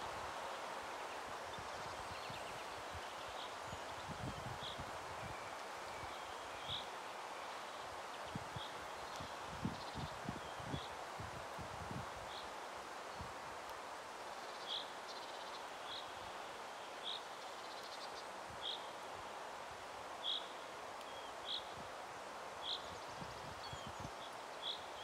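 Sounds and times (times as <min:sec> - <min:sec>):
woodland ambience hiss: 0:00.0 - 0:25.0.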